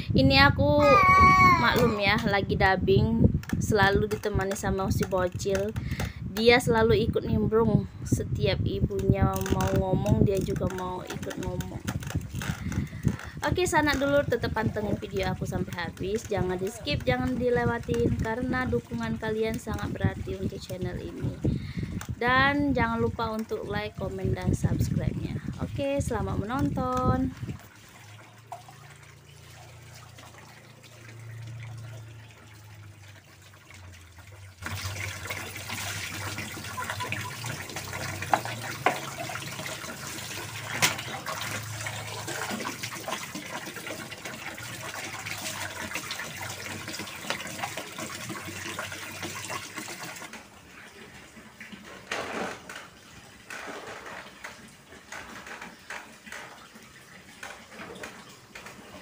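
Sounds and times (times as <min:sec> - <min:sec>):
tap water running into basin: 0:00.7 - 0:07.1, 0:08.8 - 0:59.0.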